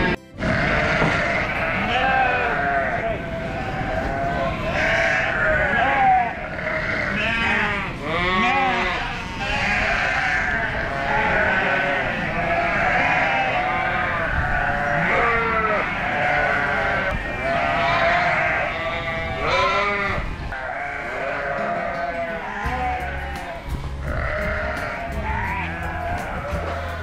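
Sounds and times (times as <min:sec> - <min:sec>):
sheep and lambs bleating: 0:00.0 - 0:27.0.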